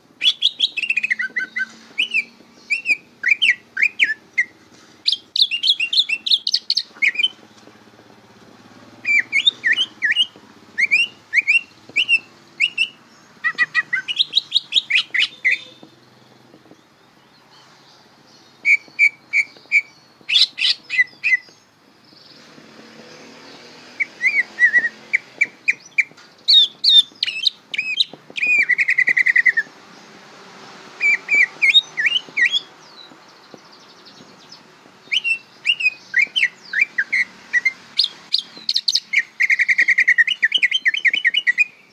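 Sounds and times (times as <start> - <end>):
bird singing whistled notes: 0.2 - 7.7, 8.8 - 30.1, 31.0 - 41.9.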